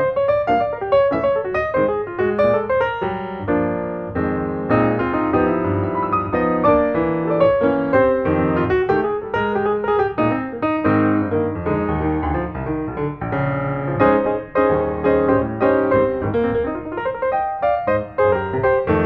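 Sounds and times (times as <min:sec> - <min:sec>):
piano background music: 0:00.0 - 0:19.0.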